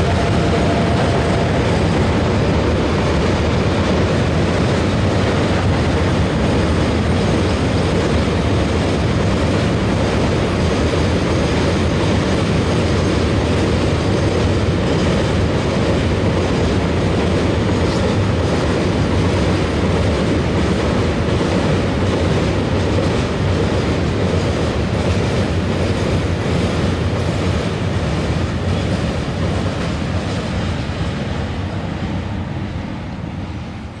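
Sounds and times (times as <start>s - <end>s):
freight train wheels rumbling on rails: 0.0s - 34.0s.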